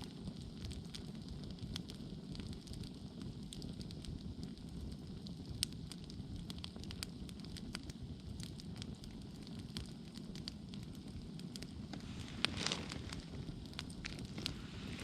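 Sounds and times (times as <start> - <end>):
campfire flames rushing: 0.0 - 15.0
fire crackling and snapping: 0.0 - 15.0.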